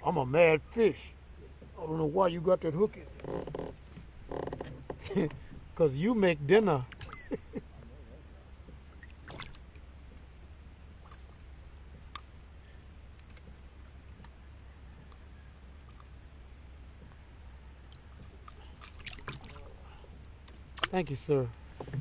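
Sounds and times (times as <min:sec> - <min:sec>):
faint high hiss: 0:00.0 - 0:22.0.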